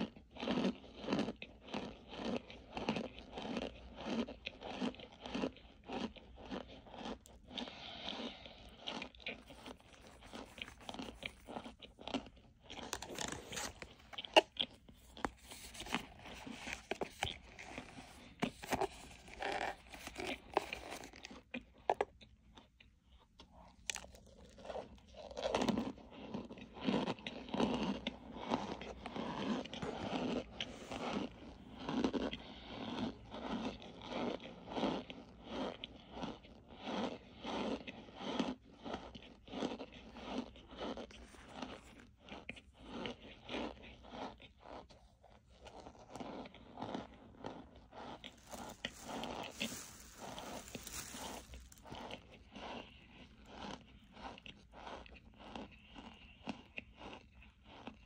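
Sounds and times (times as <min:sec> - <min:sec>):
biting and crunching starch: 0:00.0 - 0:58.0
rhythmic chewing: 0:00.0 - 0:58.0.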